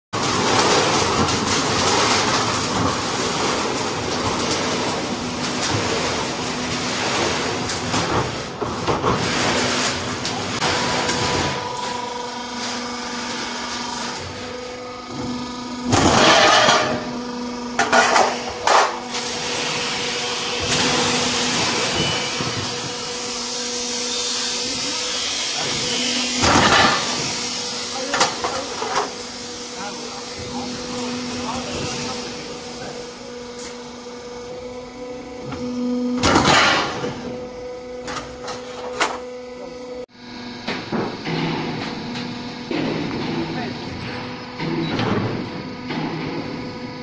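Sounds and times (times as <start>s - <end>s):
roll forming machine running: 0.2s - 47.0s.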